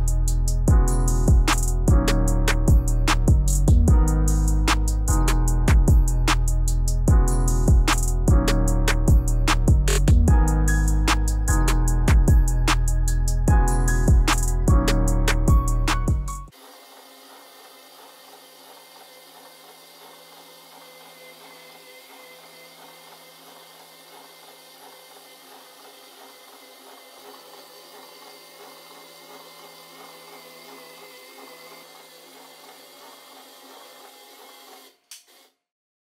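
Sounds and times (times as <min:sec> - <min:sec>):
stepper motor whine: 0:03.0 - 0:35.0.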